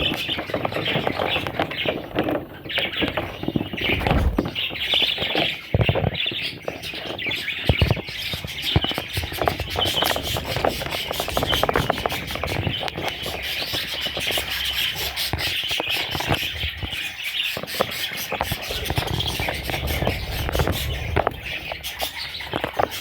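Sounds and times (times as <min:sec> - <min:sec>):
chicks squealing chirps: 0:00.0 - 0:23.0
small clicks and scratches: 0:00.0 - 0:23.0.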